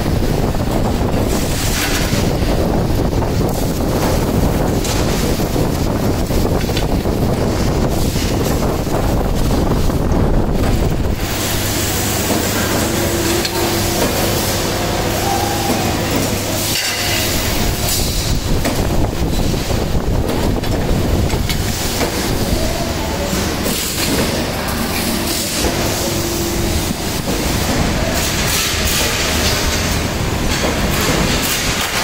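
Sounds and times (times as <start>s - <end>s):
machine low hum: 0.0s - 32.0s
mechanical rumble: 0.0s - 32.0s.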